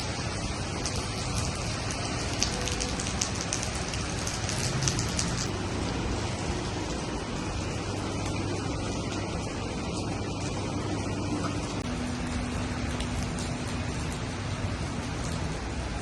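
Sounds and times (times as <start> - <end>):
rain spattering on hard surfaces: 0.0 - 16.0.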